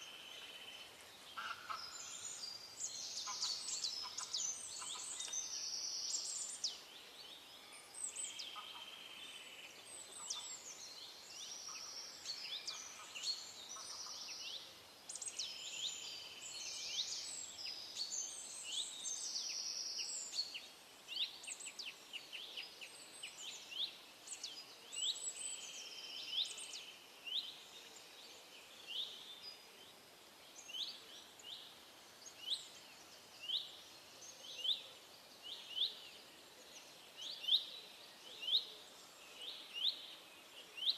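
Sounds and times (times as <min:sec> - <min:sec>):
faint background hiss: 0:00.0 - 0:40.9
small birds chirping: 0:00.0 - 0:40.9.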